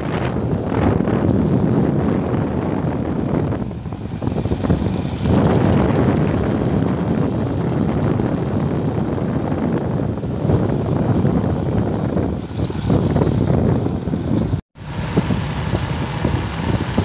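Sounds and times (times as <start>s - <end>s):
motorcycle engine drone: 0.0s - 17.0s.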